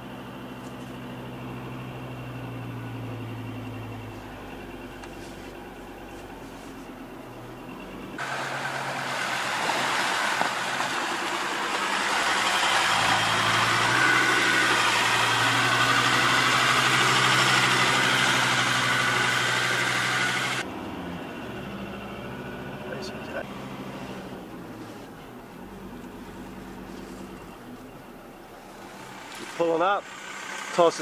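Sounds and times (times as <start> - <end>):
vehicle engine humming: 0.0 - 31.0.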